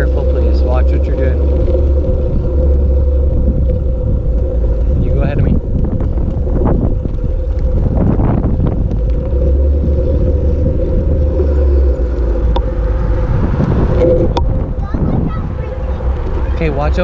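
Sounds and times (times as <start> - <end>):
steady hum: 0.0 - 17.0
wind rumbling on microphone: 0.0 - 17.0.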